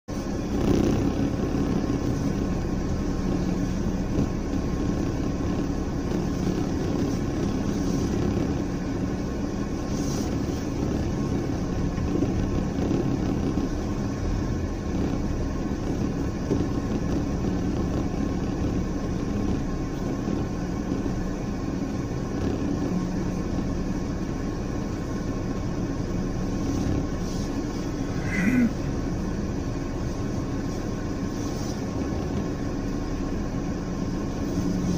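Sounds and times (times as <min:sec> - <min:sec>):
van engine drone: 0:00.0 - 0:34.9.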